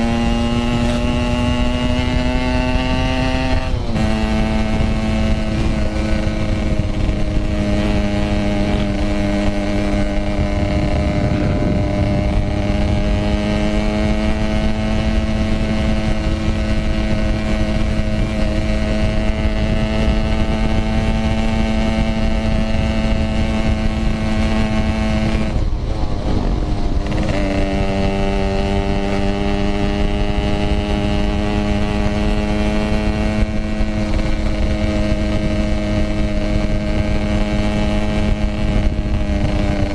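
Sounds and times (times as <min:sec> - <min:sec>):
two-stroke motorcycle engine: 0:00.0 - 0:39.9
wind rumble on microphone: 0:00.0 - 0:39.9.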